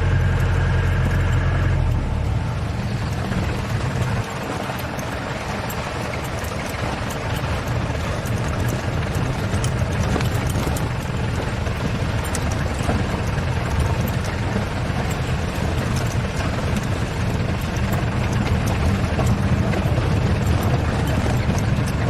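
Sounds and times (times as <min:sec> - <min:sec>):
light clicks and rattles: 0:00.0 - 0:22.0
vehicle engine running steadily: 0:00.0 - 0:22.0.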